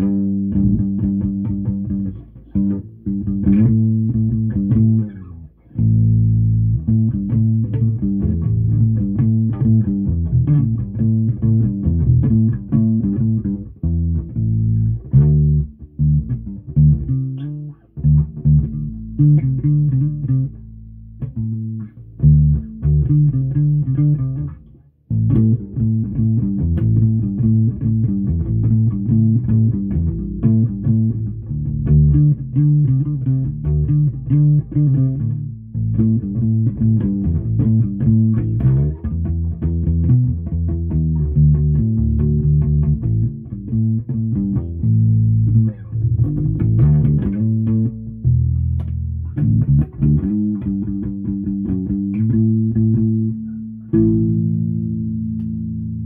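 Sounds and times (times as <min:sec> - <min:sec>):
electric bass guitar plucked: 0:00.0 - 0:56.0.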